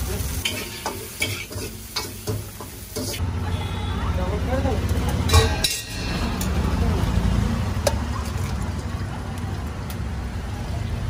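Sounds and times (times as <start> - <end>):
gas burner roaring: 0.0 - 3.5, 4.3 - 11.0.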